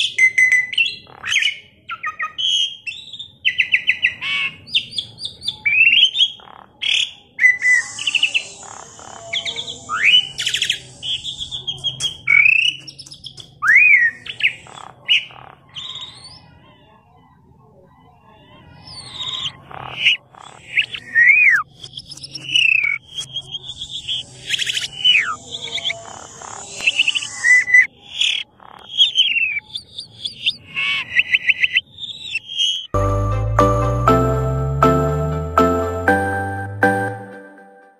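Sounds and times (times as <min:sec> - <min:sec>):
starling singing: 0:00.0 - 0:34.1.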